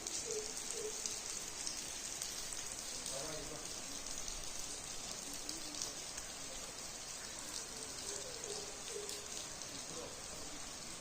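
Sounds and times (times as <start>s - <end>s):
water drips and splashes: 0.0s - 11.0s.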